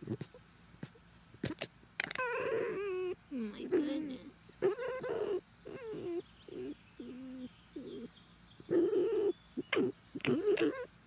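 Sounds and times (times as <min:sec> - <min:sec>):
fox whiny cooing calls: 0:00.0 - 0:04.0, 0:04.6 - 0:11.0.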